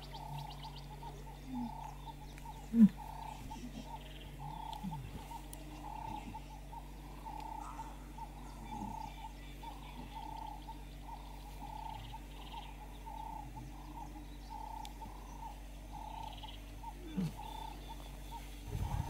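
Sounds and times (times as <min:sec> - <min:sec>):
lion cubs grunting: 0:00.0 - 0:19.0
repeating animal call: 0:00.0 - 0:19.0.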